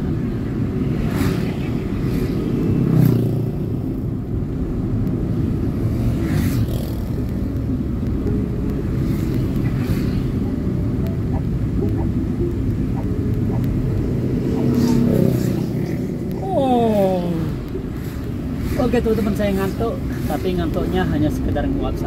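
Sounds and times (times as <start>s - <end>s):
road vehicle rumble: 0.0s - 22.0s.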